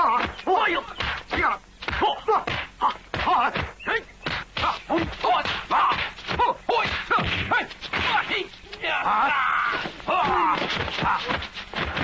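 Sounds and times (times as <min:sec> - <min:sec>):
punch and block thwacks: 0:00.0 - 0:08.4, 0:09.7 - 0:12.0
fighters shouting and grunting: 0:00.0 - 0:12.0.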